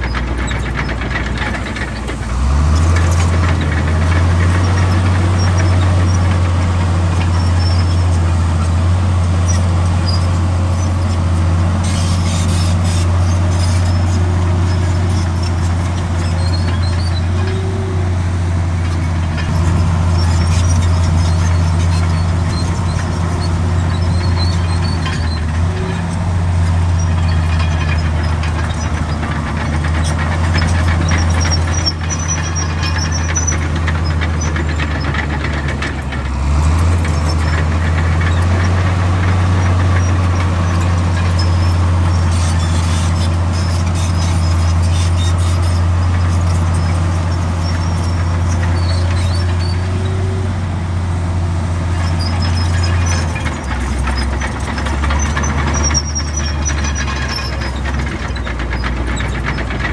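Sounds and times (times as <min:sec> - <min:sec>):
bulldozer diesel engine running: 0:00.0 - 0:59.9
track squeaks: 0:00.0 - 0:59.9.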